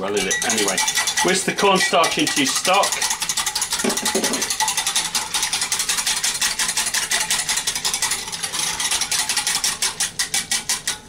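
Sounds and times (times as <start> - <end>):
whisk clicking against glass: 0.0 - 11.0.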